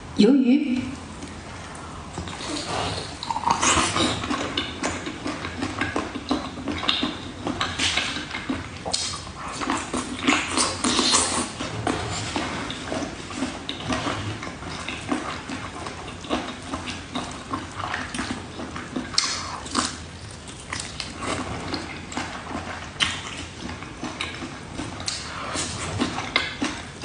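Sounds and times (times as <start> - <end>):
wet chewing and mouth smacking: 1.2 - 27.0.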